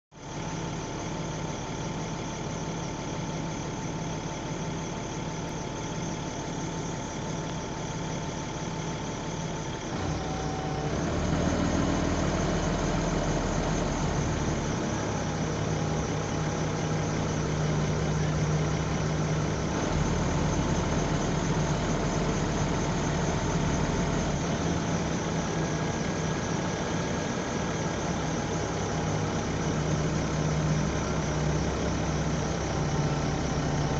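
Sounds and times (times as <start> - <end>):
bus diesel engine: 0.1 - 33.9.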